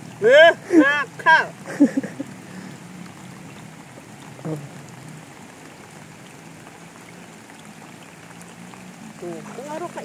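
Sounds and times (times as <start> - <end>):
rain on water and vegetation: 0.0 - 10.0.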